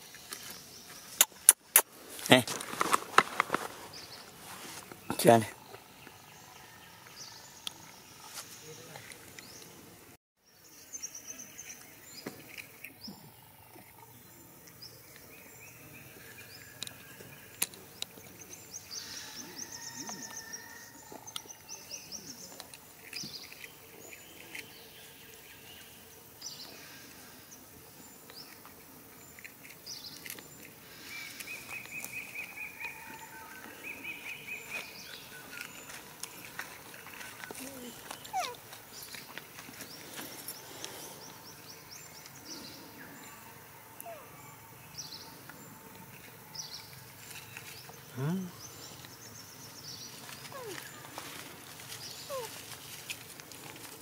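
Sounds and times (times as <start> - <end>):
birds chirping and trilling: 10.5 - 54.0.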